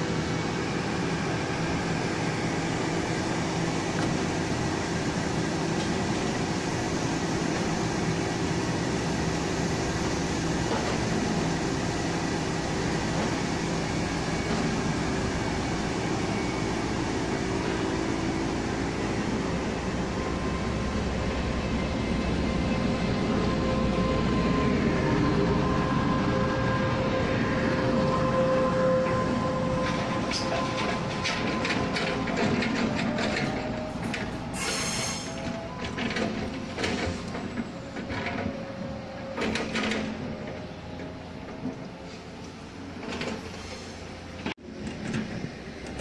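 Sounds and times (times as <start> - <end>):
train equipment humming: 0.0 - 46.0
train rumbling past: 0.0 - 46.0.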